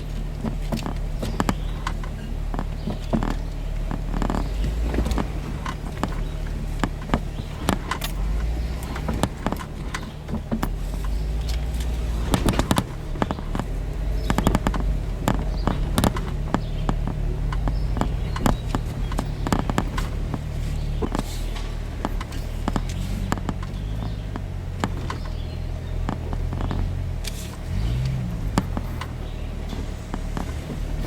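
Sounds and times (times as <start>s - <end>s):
jeep engine at low revs: 0.0s - 31.0s
rocks cracking and knocking: 0.0s - 31.0s.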